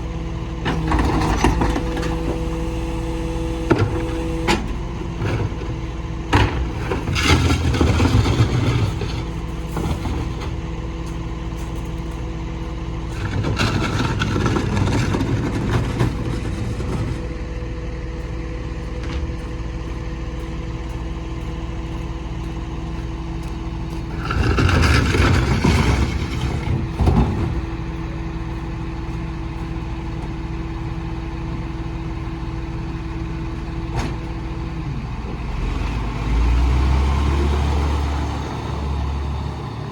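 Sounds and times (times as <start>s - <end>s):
garbage truck engine humming: 0.0s - 39.9s.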